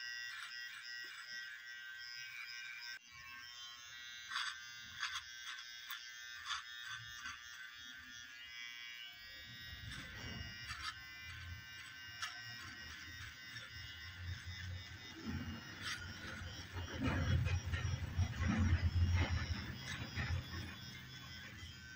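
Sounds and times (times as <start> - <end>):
hair trimmer buzzing: 0.0 - 21.9.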